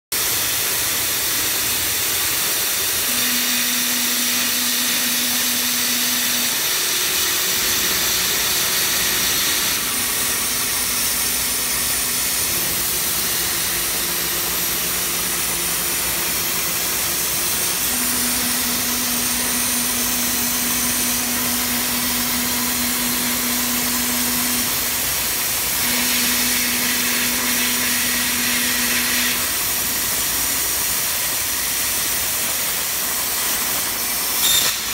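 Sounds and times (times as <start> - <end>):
plasma cutter hissing: 0.2 - 34.9.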